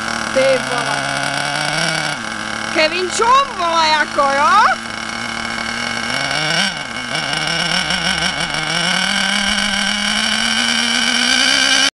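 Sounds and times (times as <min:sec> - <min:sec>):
small nitro engine running: 0:00.0 - 0:11.9.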